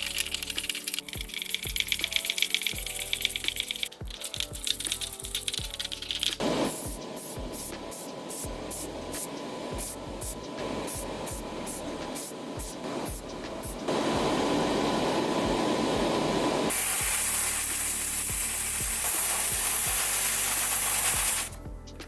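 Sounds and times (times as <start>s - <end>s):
paint spray hissing: 0.0s - 15.8s, 16.7s - 21.6s.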